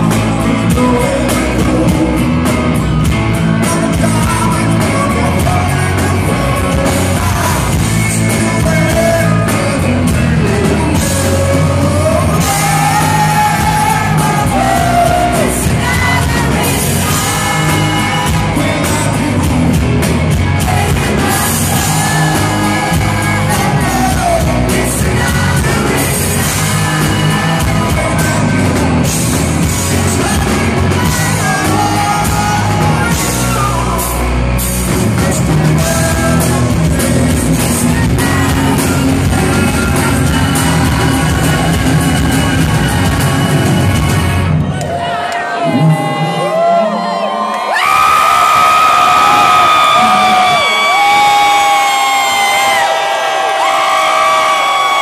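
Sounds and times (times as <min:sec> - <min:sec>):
man singing lead vocals: 0:00.0 - 0:44.1
live rock band playing: 0:00.0 - 0:46.8, 0:47.8 - 0:55.0.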